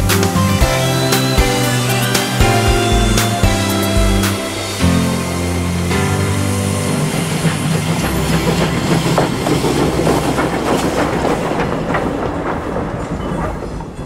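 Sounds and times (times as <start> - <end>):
train wheels clanking over rail joints: 0.0 - 14.0.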